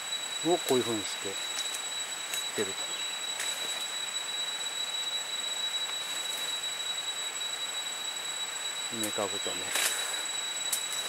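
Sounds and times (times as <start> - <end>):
constant high-pitched tone: 0.0 - 11.0
high forest hiss: 0.0 - 11.0.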